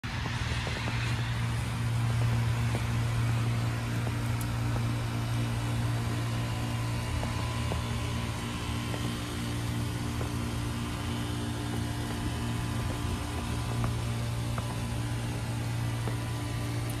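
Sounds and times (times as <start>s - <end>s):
compressor hum: 0.0s - 17.0s
airy hiss: 0.1s - 17.0s.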